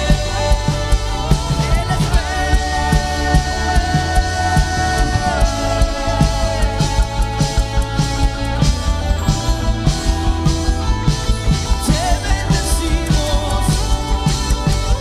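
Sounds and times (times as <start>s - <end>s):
band playing rock worship song: 0.0s - 15.0s
steady drum beat: 0.0s - 15.0s.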